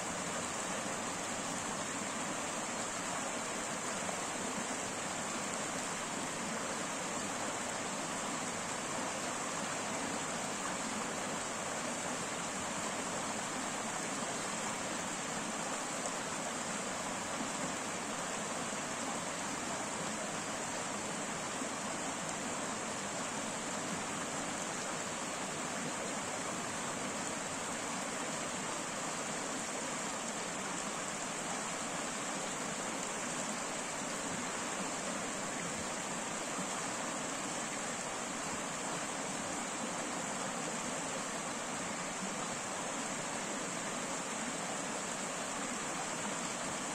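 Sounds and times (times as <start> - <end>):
stream running over rapids: 0.0 - 46.9.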